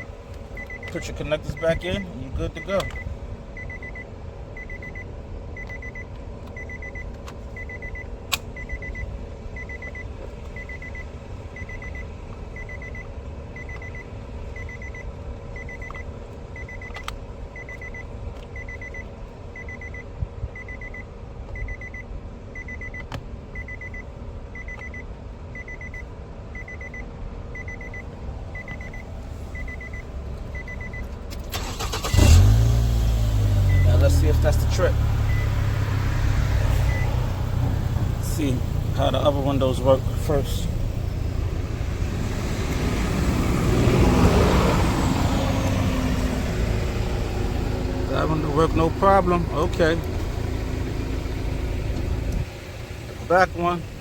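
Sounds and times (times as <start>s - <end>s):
dashboard warning chime beeping: 0.0s - 54.0s.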